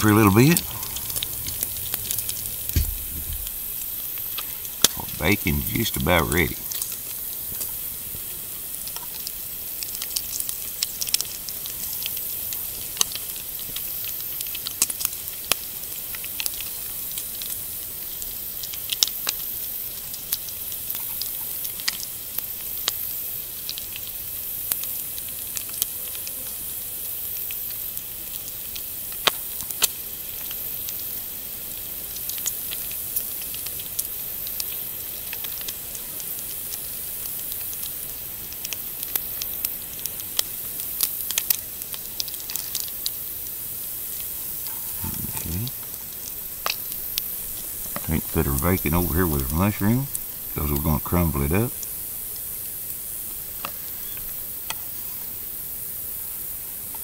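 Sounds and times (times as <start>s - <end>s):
bacon sizzling with crackling pops: 0.0s - 57.0s.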